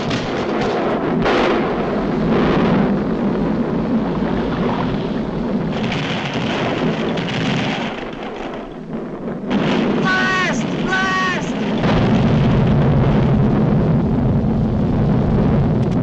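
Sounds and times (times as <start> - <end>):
volcano rumbling and roaring: 0.0 - 16.0.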